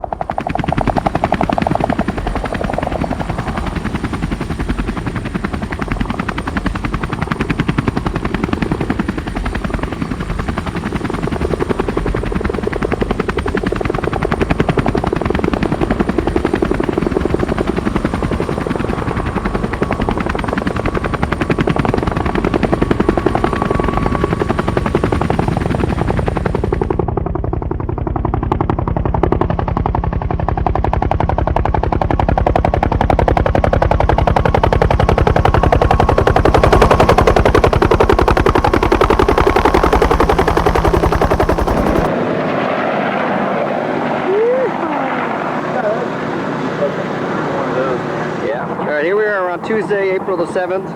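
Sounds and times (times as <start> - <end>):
helicopter rotor chopping: 0.0 - 50.9.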